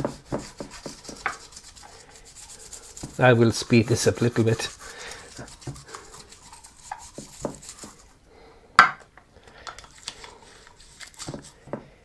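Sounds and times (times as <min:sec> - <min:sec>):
toothbrush scrubbing plastic in water: 0:00.0 - 0:08.2, 0:09.8 - 0:11.6.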